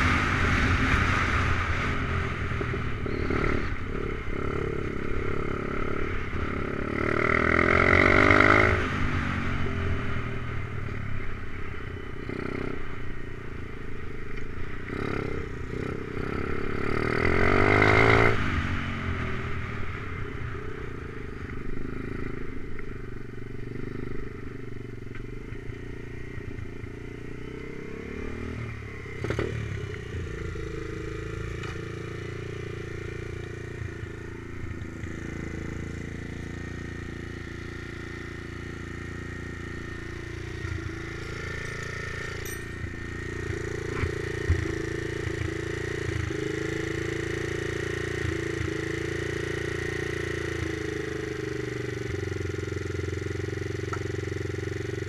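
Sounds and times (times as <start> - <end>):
motorbike engine revving and idling: 0.0 - 55.0.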